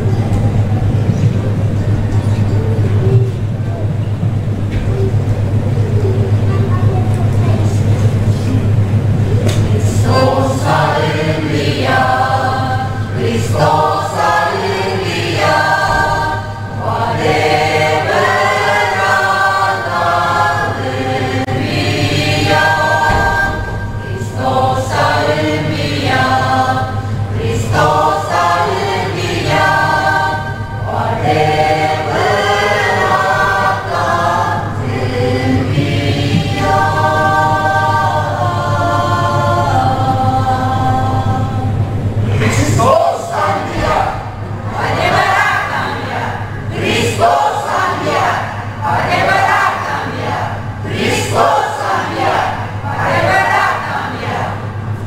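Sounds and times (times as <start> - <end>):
mixed choir singing: 7.7 - 55.0.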